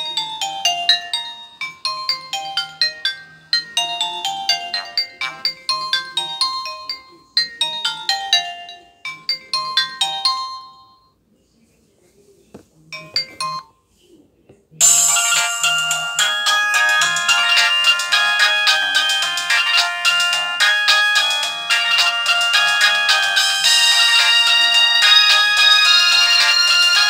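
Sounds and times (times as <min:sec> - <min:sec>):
electronic phone ringtone: 0:00.0 - 0:11.1, 0:14.8 - 0:27.0
louder fuller ringtone: 0:00.0 - 0:11.1, 0:14.8 - 0:27.0.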